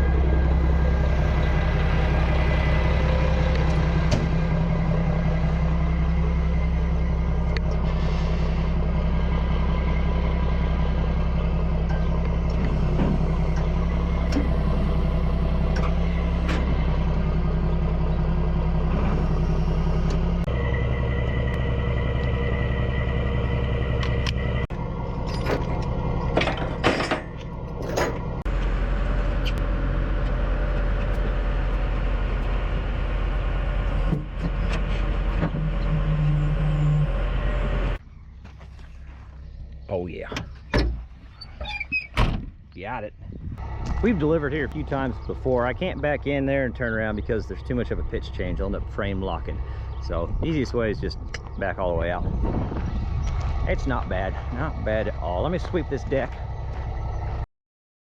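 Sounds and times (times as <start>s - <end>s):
truck diesel engine running: 0.0s - 41.4s, 43.3s - 57.4s.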